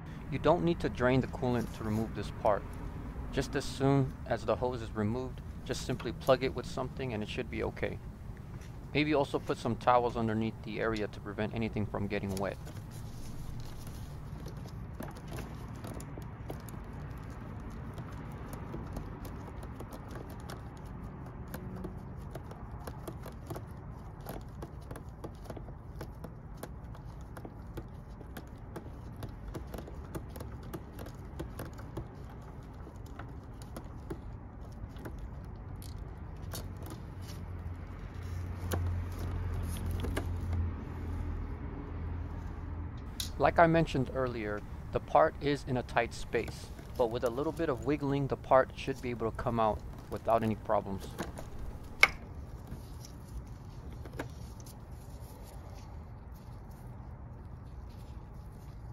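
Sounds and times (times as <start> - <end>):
small parts clicking and rustling: 8.3 - 41.3, 42.4 - 58.9.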